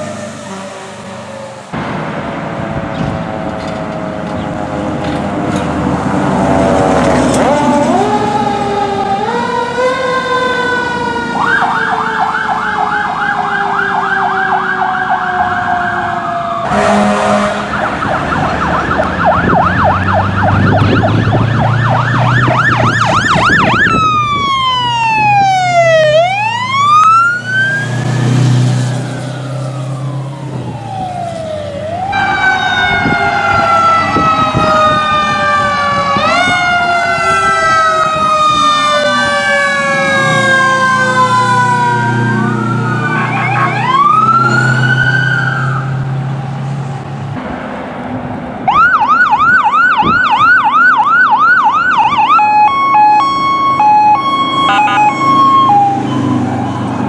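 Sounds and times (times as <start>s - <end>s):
fire truck sirens wailing: 0.0s - 57.0s
fast siren yelp: 7.4s - 46.0s, 48.7s - 57.0s.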